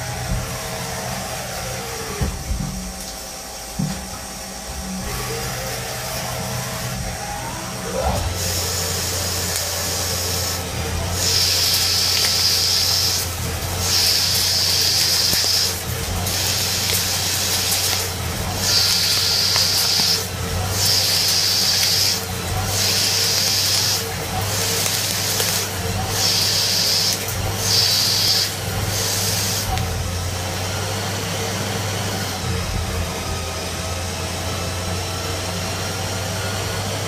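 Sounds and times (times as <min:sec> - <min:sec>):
cutting tool hiss: 0:00.0 - 0:37.0
lathe spindle humming: 0:00.0 - 0:37.0.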